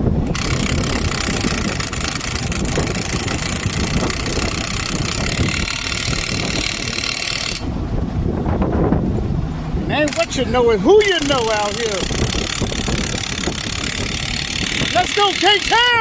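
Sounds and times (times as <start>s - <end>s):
diesel engine idling: 0.7s - 16.0s.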